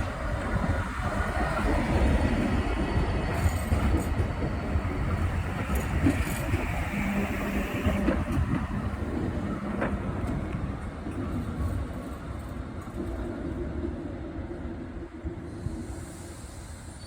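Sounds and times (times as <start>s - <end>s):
tram hum: 0.0s - 15.6s
tram rumbling: 0.0s - 17.0s.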